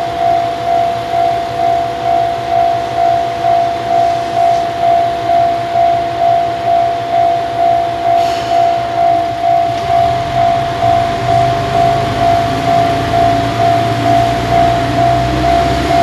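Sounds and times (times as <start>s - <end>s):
diesel railcar engine: 0.0s - 16.0s
level crossing alarm bell: 0.0s - 16.0s.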